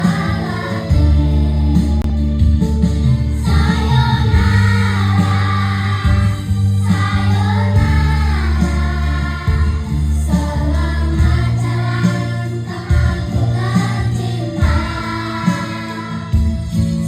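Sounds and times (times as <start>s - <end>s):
children's choir singing: 0.0s - 2.2s, 3.4s - 16.5s
musical accompaniment with low bass: 0.0s - 17.0s.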